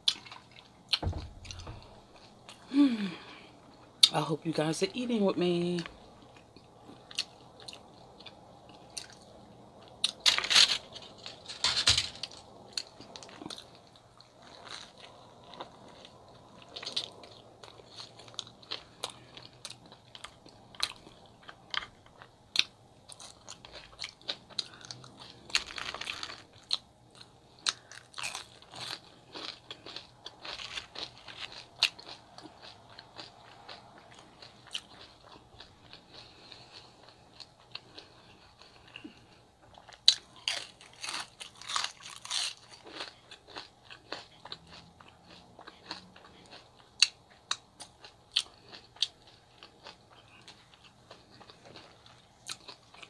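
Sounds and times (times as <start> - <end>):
chewing and crunching food: 0.0 - 4.2, 5.0 - 53.0.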